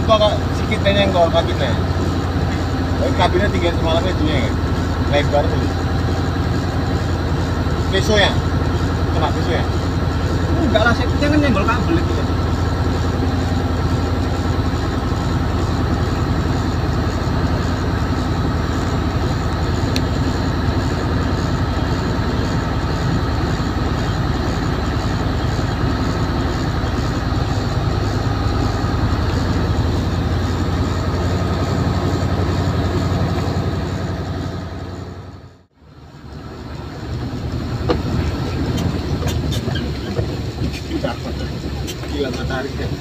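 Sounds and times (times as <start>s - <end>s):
truck diesel engine drone: 0.0s - 43.0s.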